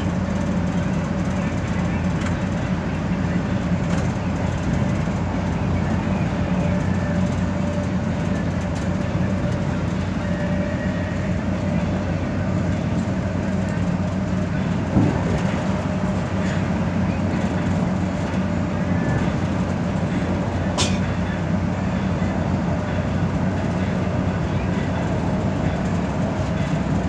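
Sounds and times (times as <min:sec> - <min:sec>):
bus engine and road drone: 0:00.0 - 0:27.0.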